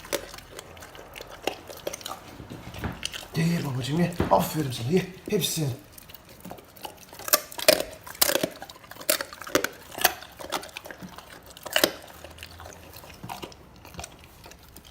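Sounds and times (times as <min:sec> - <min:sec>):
dog crunching bones: 0:00.0 - 0:14.9.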